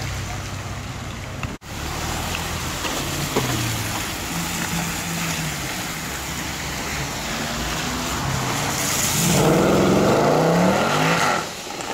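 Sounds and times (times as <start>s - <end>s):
tyres hissing on wet road: 0.0s - 11.9s.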